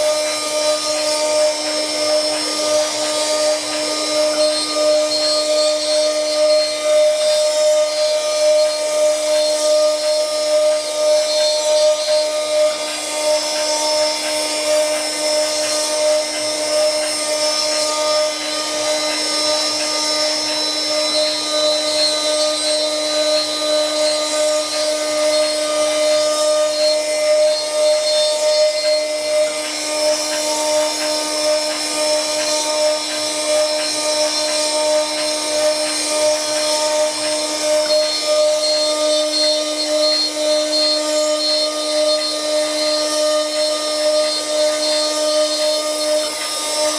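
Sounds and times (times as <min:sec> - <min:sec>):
motor whine: 0:00.0 - 0:46.9
tool cutting into wood: 0:00.0 - 0:46.9.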